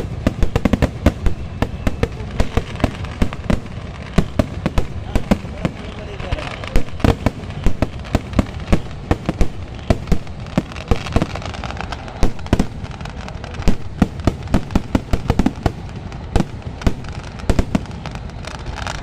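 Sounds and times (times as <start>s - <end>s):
continuous crackling rumble: 0.0s - 19.0s
firecrackers banging: 0.0s - 19.0s.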